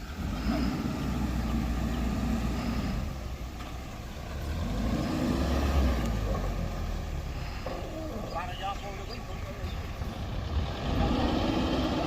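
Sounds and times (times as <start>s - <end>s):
bulldozer diesel engine under load: 0.0s - 12.0s.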